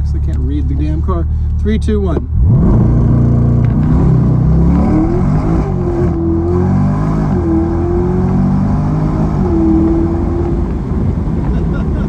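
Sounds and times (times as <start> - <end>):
car engine accelerating hard: 2.2 - 12.0.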